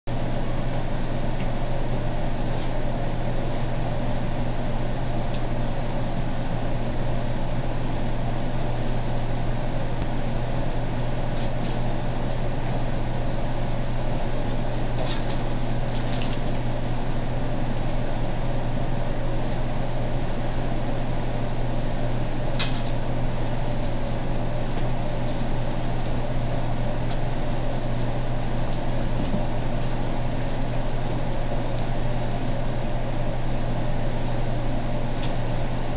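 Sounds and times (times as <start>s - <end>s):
machine-like hum: 0.1s - 35.9s.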